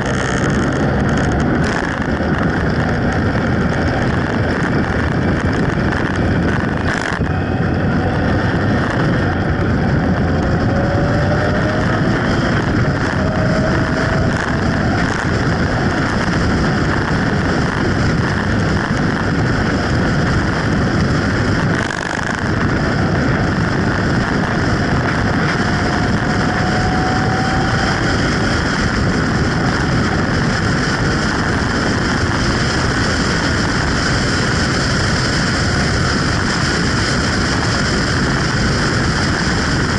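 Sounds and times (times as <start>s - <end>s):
motorcycle engine: 0.0s - 39.9s
road noise: 0.0s - 39.9s
wind rush on microphone: 0.0s - 39.9s.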